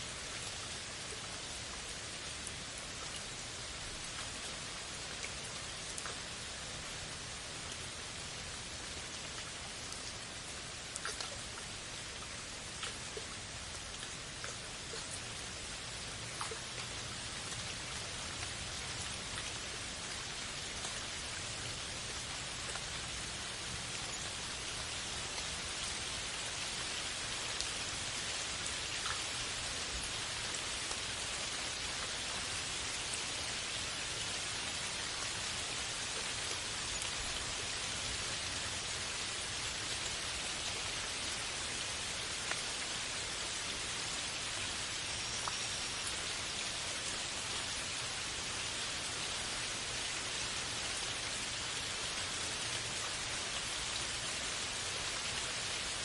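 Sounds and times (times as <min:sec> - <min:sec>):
steady rain falling: 0:00.0 - 0:56.0
water drips: 0:00.3 - 0:47.6.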